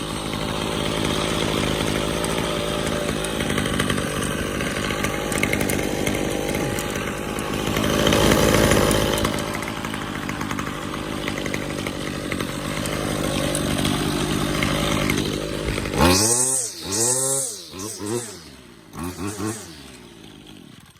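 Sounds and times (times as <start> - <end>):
string trimmer engine running: 0.0 - 20.9.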